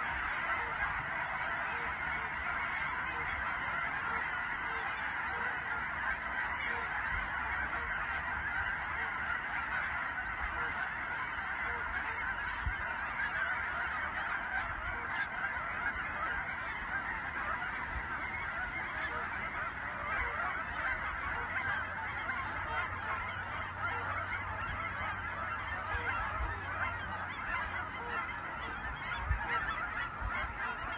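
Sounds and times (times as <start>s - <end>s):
geese honking: 0.0s - 30.9s.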